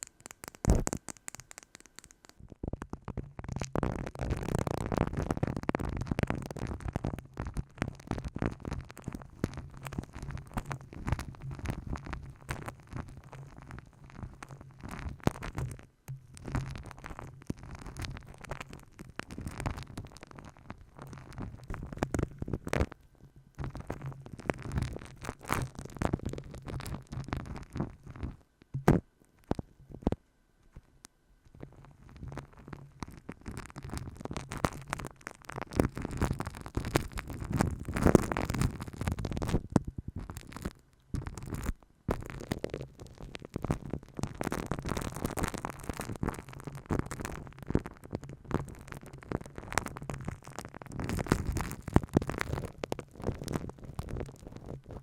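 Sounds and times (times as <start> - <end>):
rubbing and scratching on microphone: 0.0 - 55.0.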